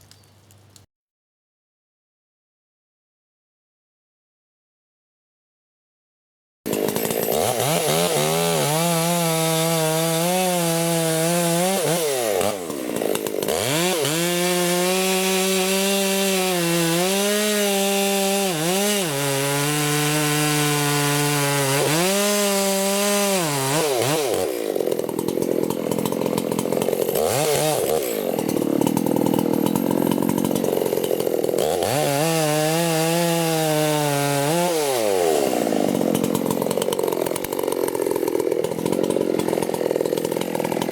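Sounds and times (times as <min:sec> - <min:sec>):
chainsaw cutting wood: 0:06.7 - 0:40.9.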